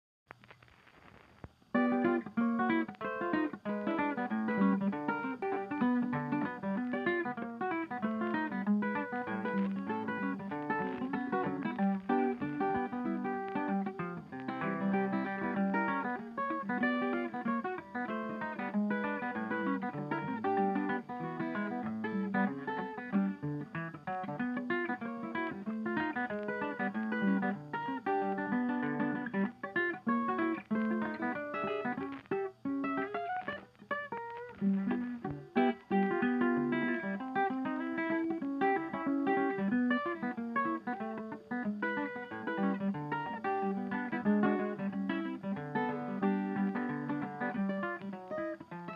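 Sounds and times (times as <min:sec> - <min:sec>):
acoustic guitar playing: 0:00.6 - 0:48.9.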